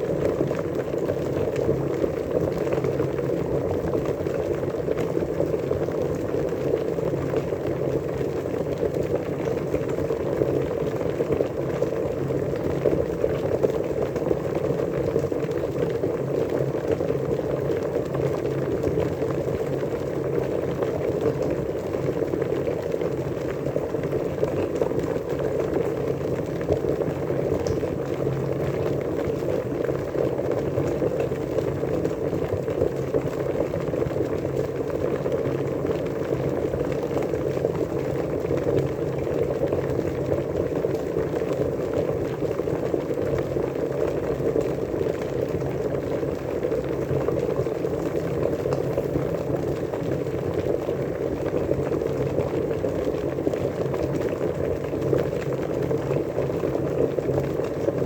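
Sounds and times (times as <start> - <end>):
water boiling: 0.0 - 58.0.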